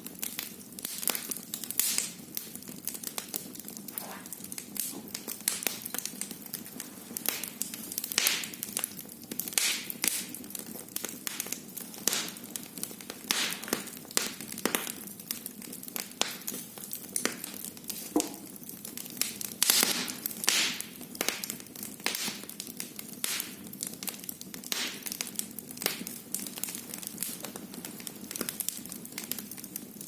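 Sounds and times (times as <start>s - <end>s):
wood fire crackling: 0.0s - 30.0s
fire hissing: 0.2s - 30.0s.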